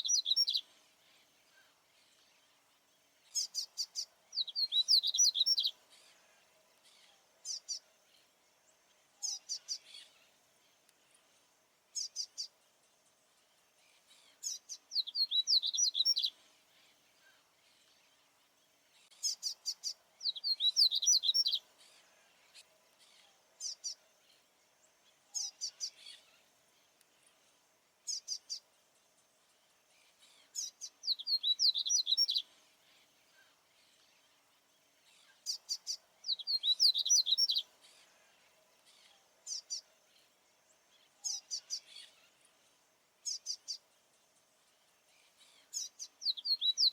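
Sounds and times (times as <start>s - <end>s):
faint steady hum: 0.0s - 46.9s.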